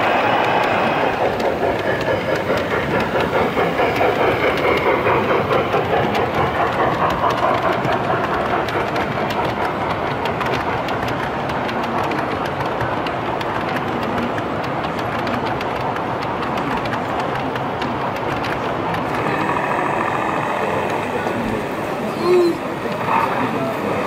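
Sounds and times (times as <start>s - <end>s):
model train running noise: 0.0s - 24.0s
model train wheels clicking: 0.0s - 24.0s.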